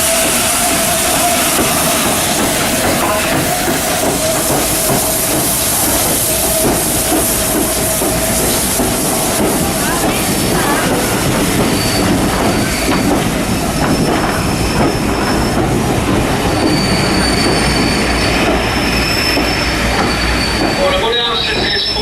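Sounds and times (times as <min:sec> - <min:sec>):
high wheel squeals: 0:00.0 - 0:22.0
train carriages rumbling on rails: 0:00.0 - 0:22.0.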